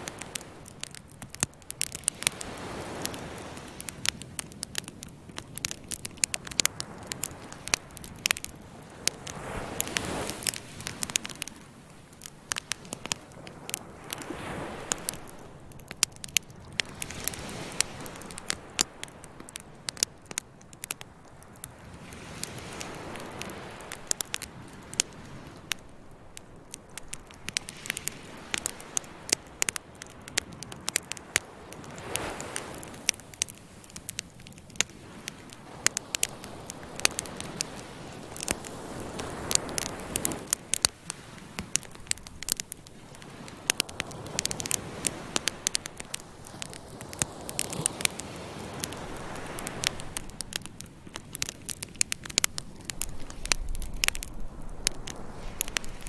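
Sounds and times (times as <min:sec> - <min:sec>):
campfire crackling and popping: 0:00.0 - 0:56.0
ocean waves: 0:00.0 - 0:56.0.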